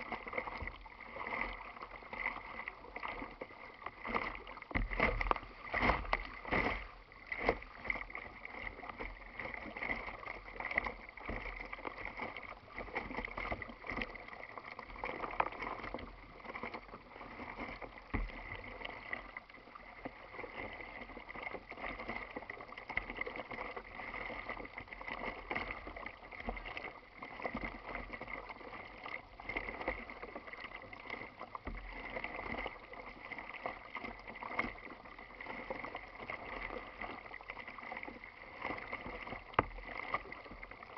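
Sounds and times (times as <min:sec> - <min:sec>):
water lapping against kayak hull: 0:00.0 - 0:40.9.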